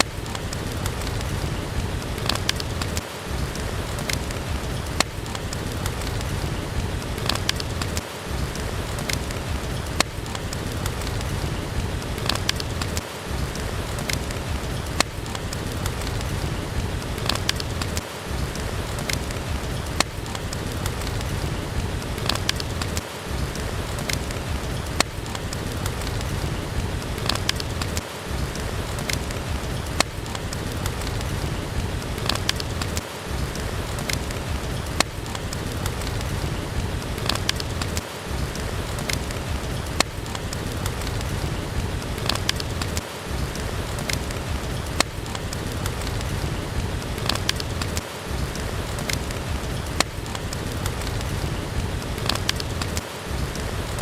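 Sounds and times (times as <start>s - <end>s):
fire popping: 0.0s - 54.0s
steady rain: 0.0s - 54.0s
wood fire crackling: 0.0s - 54.0s.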